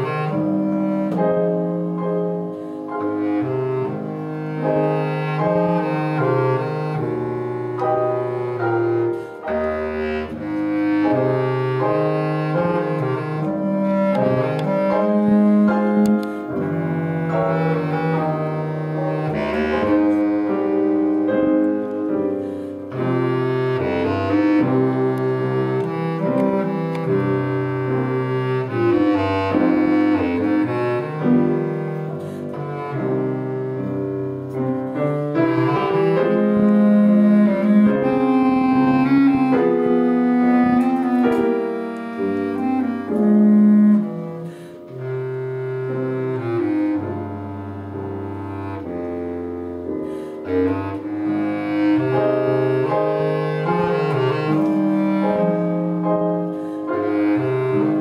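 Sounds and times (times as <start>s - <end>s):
bass clarinet melody: 0.0s - 58.0s
grand piano: 0.0s - 58.0s.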